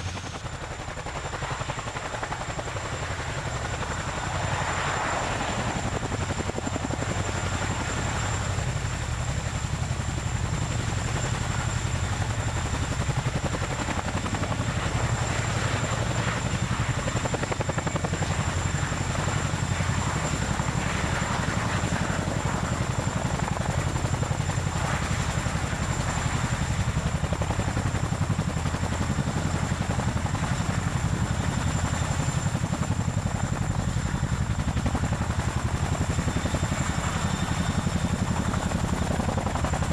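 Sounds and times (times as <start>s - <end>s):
helicopter rotors chopping: 0.0s - 39.9s.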